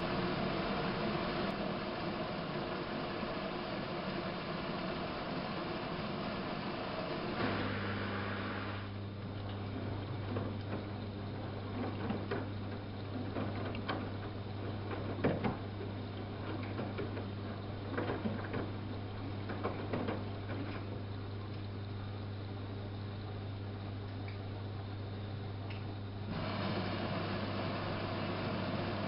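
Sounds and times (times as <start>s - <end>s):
washing machine motor hum: 0.0s - 29.0s.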